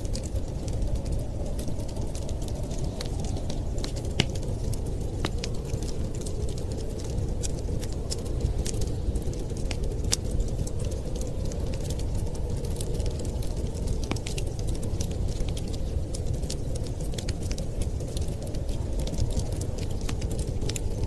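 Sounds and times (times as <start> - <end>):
burning wood popping and snapping: 0.0 - 21.0
fire low rushing: 0.0 - 21.0.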